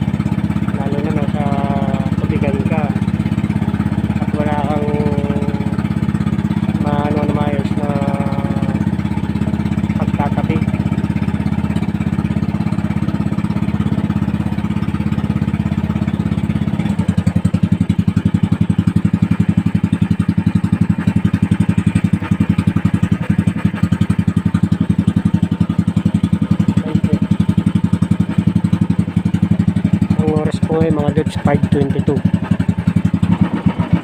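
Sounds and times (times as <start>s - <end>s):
boat engine thudding: 0.0s - 34.0s.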